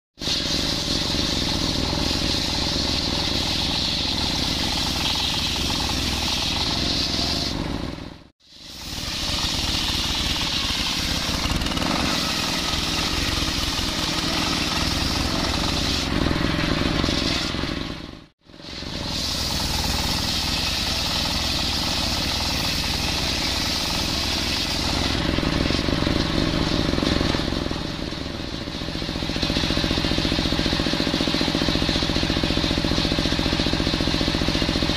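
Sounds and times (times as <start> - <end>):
circular saw cutting log: 0.2 - 34.9
engine running: 0.2 - 34.9.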